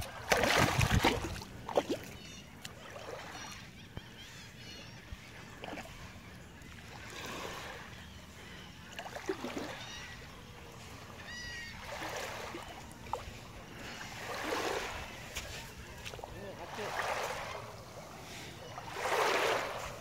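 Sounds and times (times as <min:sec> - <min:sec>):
small waves lapping on shore: 0:00.0 - 0:20.0.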